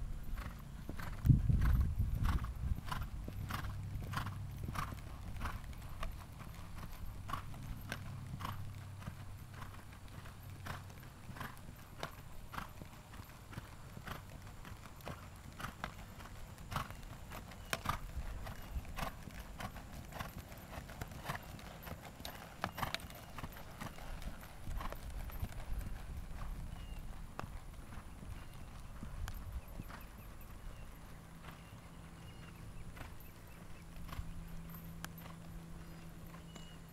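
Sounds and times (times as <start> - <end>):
horse hooves trotting on sand: 0.0 - 36.9.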